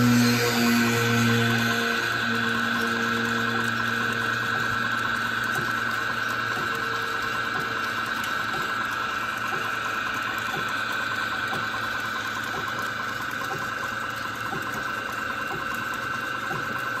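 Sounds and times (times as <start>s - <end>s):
belt-driven machinery whining: 0.0s - 17.0s
light regular ticking: 1.3s - 17.0s.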